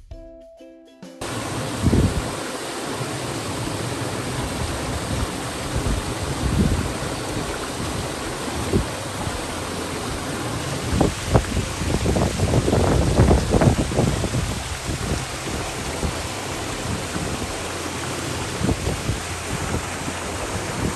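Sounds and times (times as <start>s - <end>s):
waterfall splashing over rocks: 1.2s - 20.9s.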